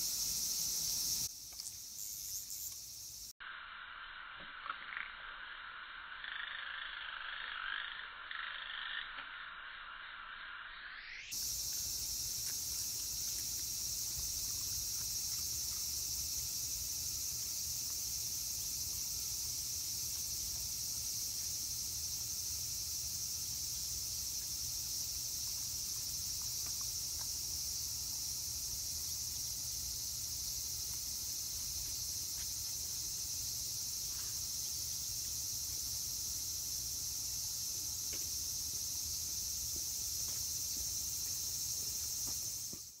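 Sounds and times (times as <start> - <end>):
cicadas chorus: 0.0 - 43.0.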